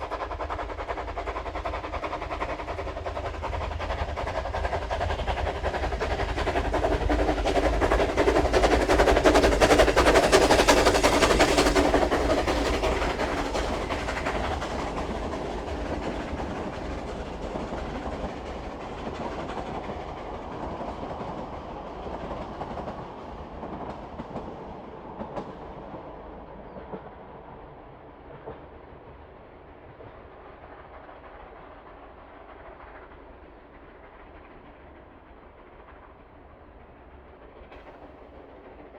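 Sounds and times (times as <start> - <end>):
steam train passing: 0.0 - 38.9.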